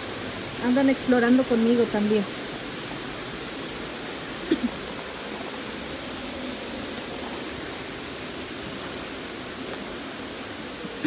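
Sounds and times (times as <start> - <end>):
creek flowing over small cascade: 0.0 - 11.0.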